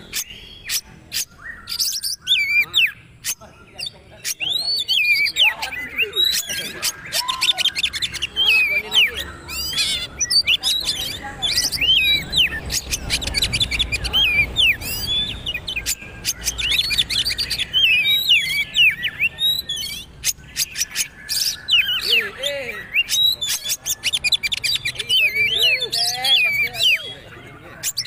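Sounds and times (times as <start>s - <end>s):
magpie-robin singing whistles and clicks: 0.0s - 3.4s, 4.2s - 27.1s.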